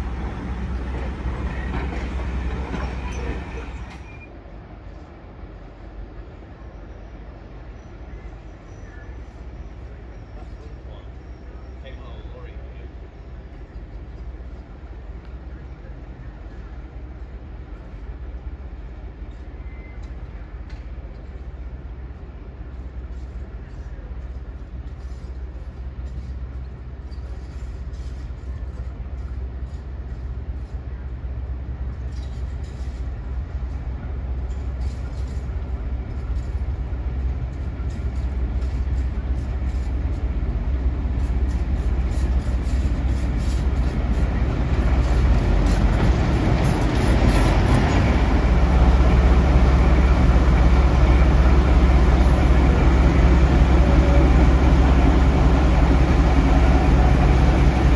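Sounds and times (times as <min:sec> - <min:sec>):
diesel locomotive engine drone: 0:00.0 - 0:57.9.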